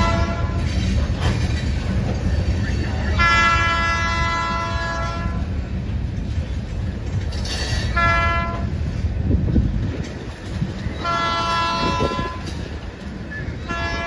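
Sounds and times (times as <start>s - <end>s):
low rumble of train: 0.0s - 14.0s.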